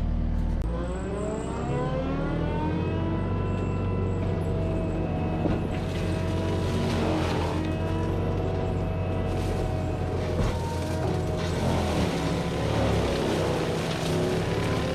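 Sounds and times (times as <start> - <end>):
diesel engine and mulcher whine: 0.0 - 14.9.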